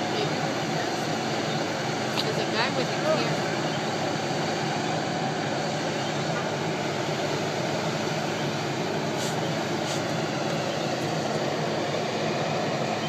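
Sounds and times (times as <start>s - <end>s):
steady vehicle noise: 0.0s - 13.0s.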